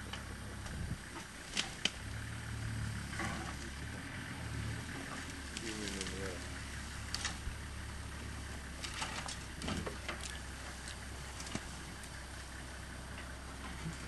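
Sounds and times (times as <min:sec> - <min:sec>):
faint clicks and rustles: 0:00.0 - 0:14.0
vehicle engine idling: 0:00.0 - 0:14.0.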